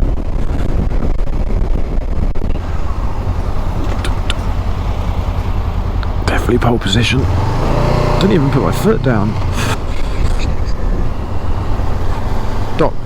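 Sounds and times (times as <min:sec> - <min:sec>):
wind and road noise: 0:00.0 - 0:13.0
motorcycle engine running: 0:02.4 - 0:13.0.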